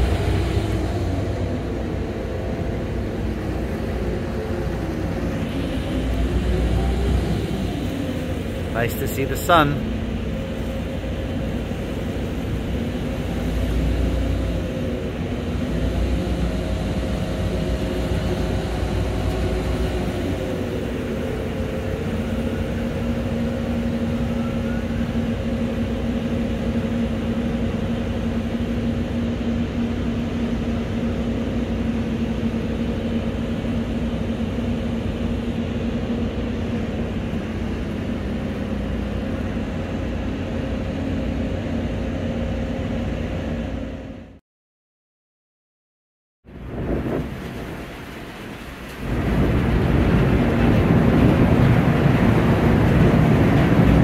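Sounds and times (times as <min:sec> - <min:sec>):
boat engine droning: 0:00.0 - 0:44.4, 0:46.5 - 0:54.0.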